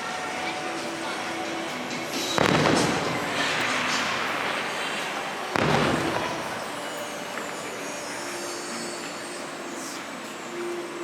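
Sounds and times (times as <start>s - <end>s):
fireworks bursting: 0.0s - 10.8s.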